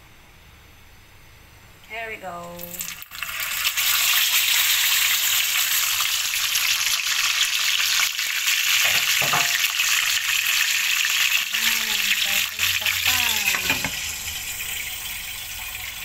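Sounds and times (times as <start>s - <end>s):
fish sizzling in hot oil: 2.6s - 16.0s.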